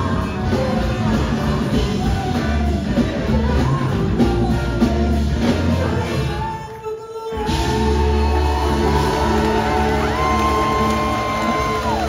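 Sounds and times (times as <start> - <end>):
person singing: 0.0 - 12.0
rock band with horns playing: 0.0 - 12.0.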